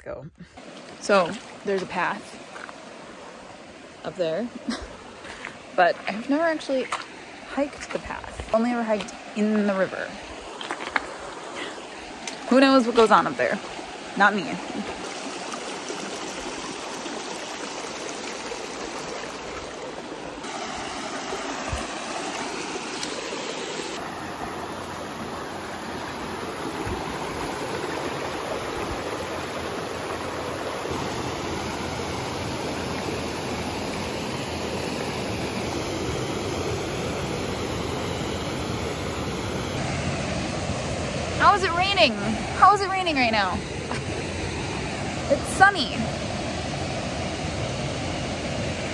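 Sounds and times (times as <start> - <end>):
river rushing over stones: 0.6 - 48.9.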